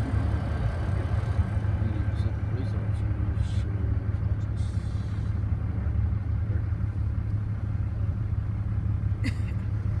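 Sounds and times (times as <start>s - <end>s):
engine rumble: 0.0s - 10.0s.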